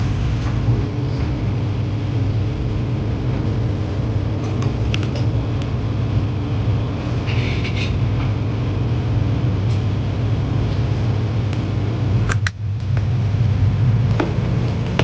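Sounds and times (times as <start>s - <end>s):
fan motor hum: 0.0s - 15.0s.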